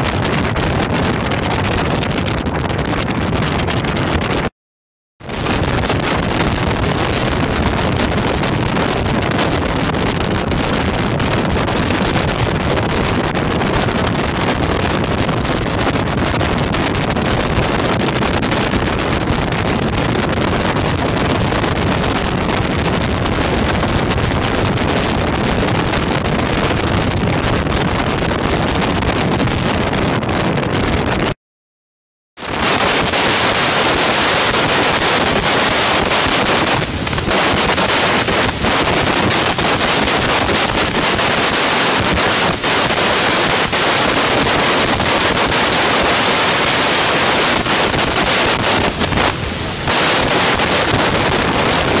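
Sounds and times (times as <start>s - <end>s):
boat engine and water rushing: 0.0s - 4.5s, 5.2s - 31.4s, 32.4s - 52.0s
wind buffeting microphone: 0.0s - 4.5s, 5.2s - 31.4s, 32.4s - 52.0s.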